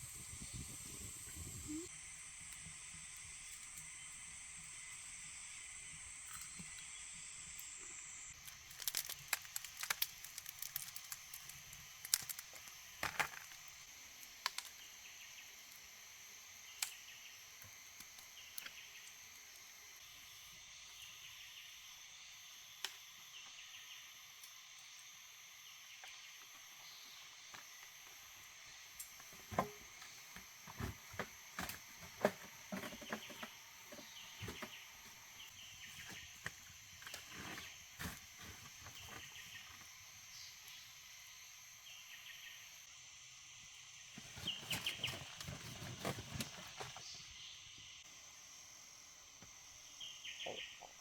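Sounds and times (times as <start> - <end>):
insects chirring and chirping: 0.0 - 51.0.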